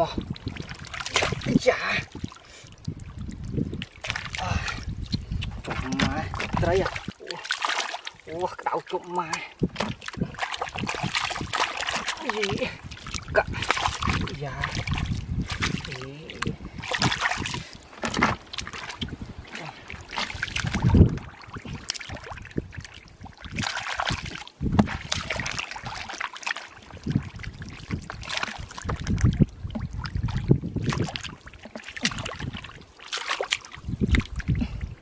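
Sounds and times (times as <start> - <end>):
squelching and sloshing in mud: 0.0 - 35.0.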